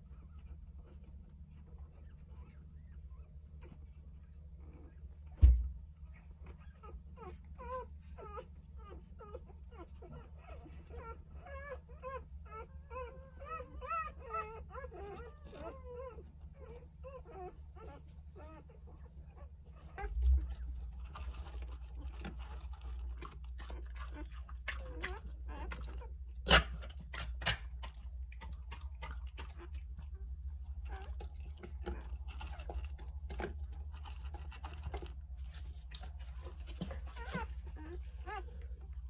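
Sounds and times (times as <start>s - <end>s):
puppies squeaking and whimpering: 1.7s - 26.3s, 27.0s - 39.0s.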